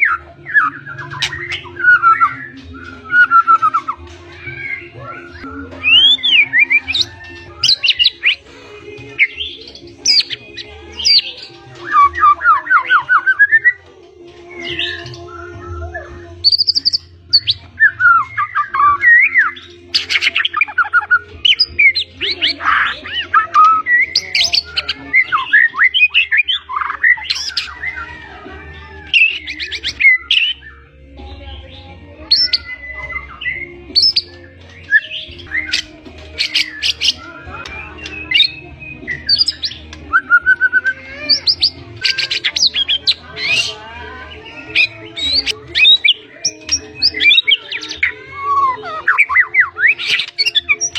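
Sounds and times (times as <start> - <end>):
songbird trills and whistles: 0.0 - 13.8, 14.4 - 28.3, 29.0 - 50.9.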